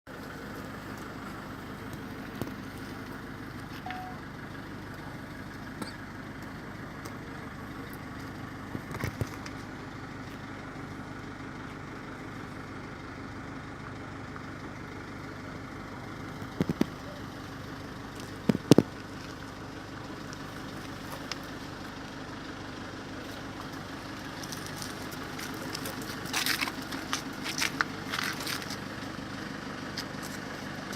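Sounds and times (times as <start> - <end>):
engine idling hum: 0.1 - 30.9.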